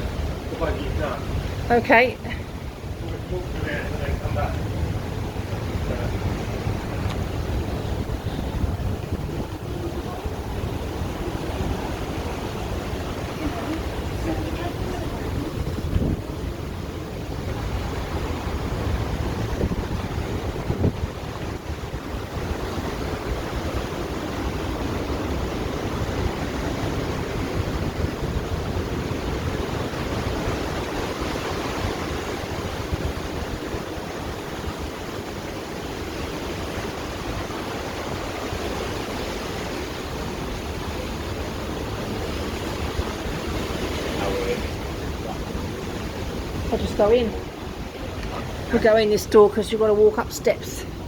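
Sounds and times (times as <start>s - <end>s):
sea wash: 0.0s - 51.0s
wind rushing over microphone: 0.0s - 51.0s.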